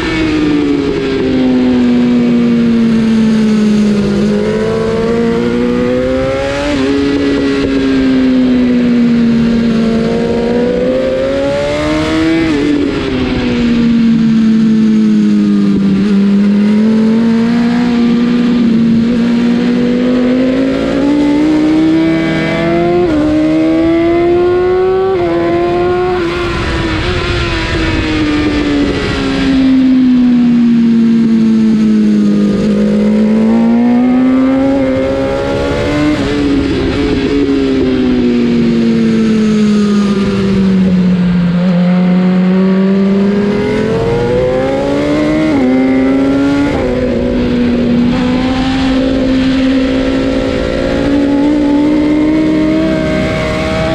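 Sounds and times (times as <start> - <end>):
motorcycle engine racing: 0.0 - 53.9
wind noise: 0.0 - 53.9.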